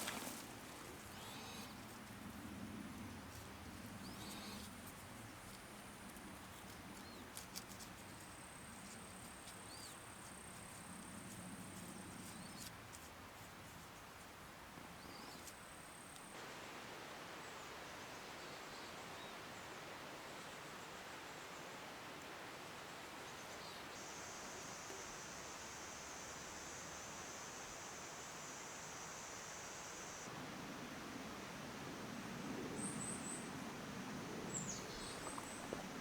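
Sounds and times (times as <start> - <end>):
background hiss: 0.0 - 36.0.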